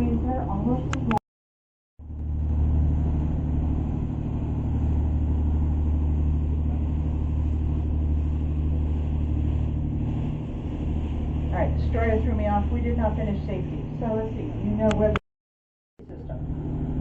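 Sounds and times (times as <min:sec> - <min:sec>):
boat engine droning: 0:00.0 - 0:01.2, 0:02.0 - 0:15.2, 0:16.0 - 0:17.0.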